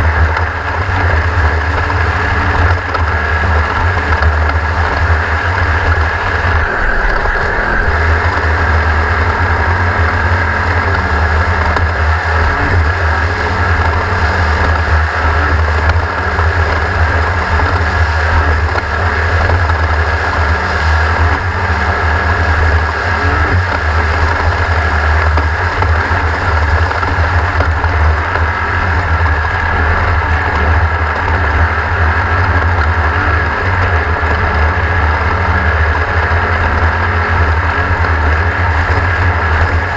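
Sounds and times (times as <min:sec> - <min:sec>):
engine droning with whine: 0:00.0 - 0:39.9.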